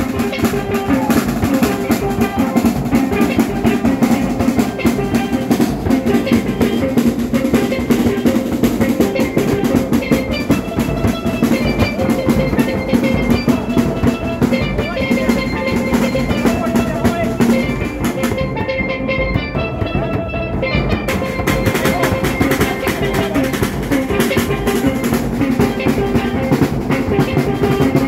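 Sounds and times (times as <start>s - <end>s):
bass drum: 0.0s - 28.0s
pitched melody line: 0.0s - 28.0s
snare drum: 0.0s - 28.0s.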